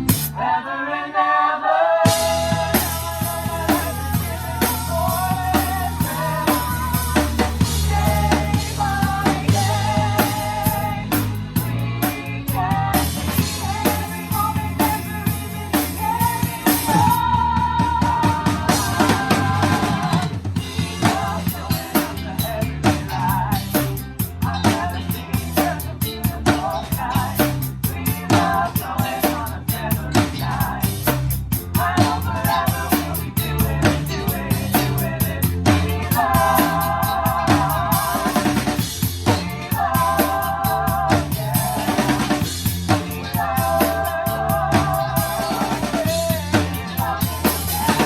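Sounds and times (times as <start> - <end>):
drum kit beat: 0.0 - 0.4, 2.0 - 48.0
live band music: 0.0 - 0.4, 2.1 - 48.0.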